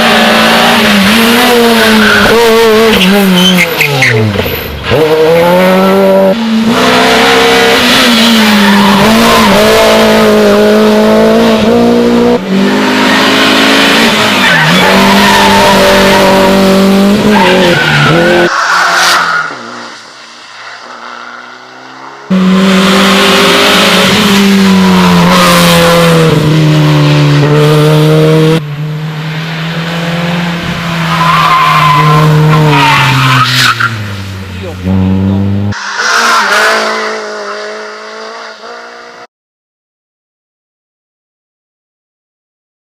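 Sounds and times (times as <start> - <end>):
rally car engines revving: 0.0 - 39.3.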